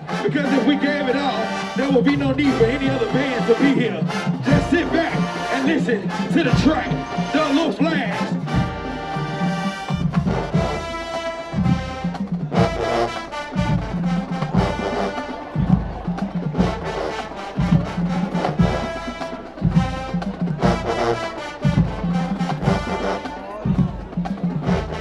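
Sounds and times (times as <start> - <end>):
brass chords: 0.0 - 25.0
marching drums and percussion: 0.0 - 25.0.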